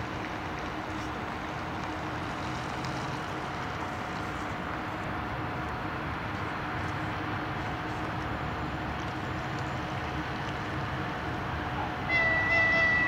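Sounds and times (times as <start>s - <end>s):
electric locomotive rumbling drone: 0.0s - 13.0s.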